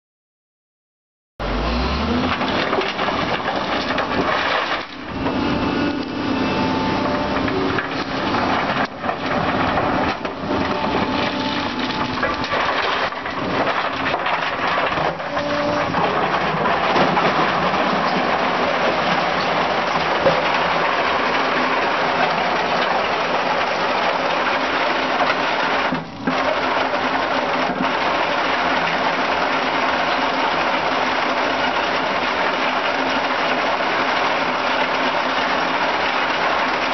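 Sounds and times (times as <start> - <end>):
cone crusher crushing stone: 2.0 - 36.9.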